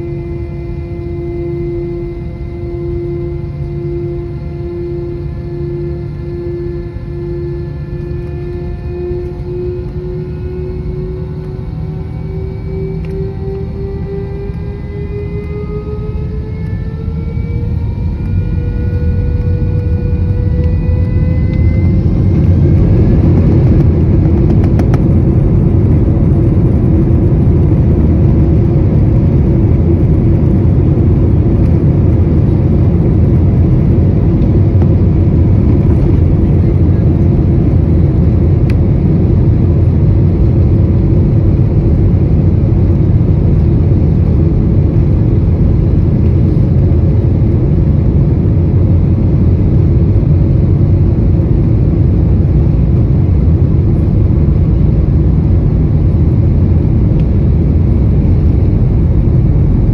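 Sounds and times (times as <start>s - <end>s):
jet engine rumble in cabin: 0.0s - 59.9s.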